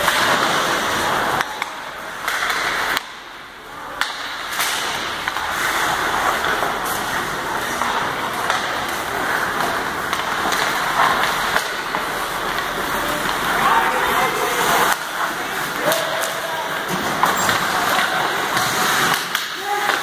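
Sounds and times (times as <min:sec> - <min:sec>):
hockey sticks clacking on puck: 0:00.0 - 0:20.0
skates scraping ice: 0:00.0 - 0:20.0.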